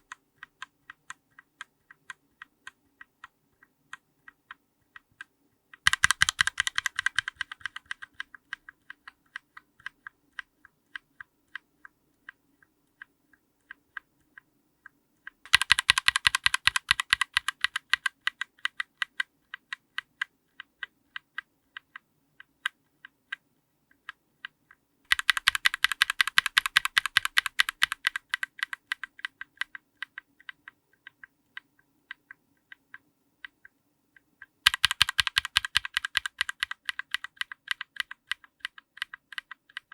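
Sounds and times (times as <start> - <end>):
mechanical keyboard keystrokes: 0.0 - 14.4, 15.2 - 23.4, 24.0 - 33.0, 34.6 - 39.9.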